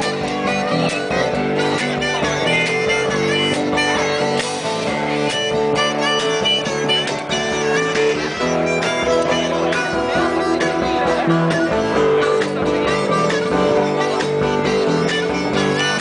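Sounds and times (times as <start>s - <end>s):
bass drum steady beat: 0.0s - 16.0s
harmonica lead: 0.0s - 16.0s
strummed acoustic guitar: 0.0s - 16.0s.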